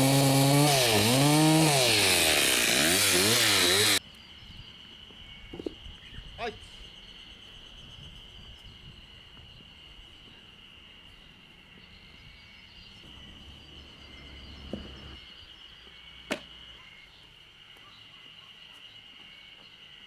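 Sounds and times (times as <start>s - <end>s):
insects droning: 3.3s - 20.0s.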